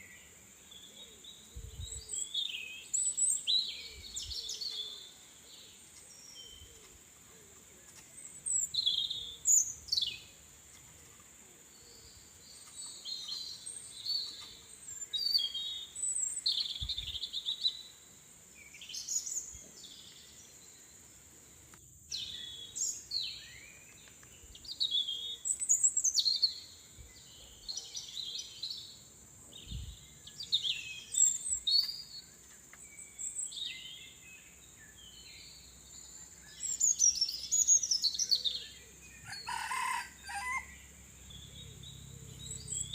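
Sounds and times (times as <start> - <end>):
small birds chirping and trilling: 0.0 - 42.9.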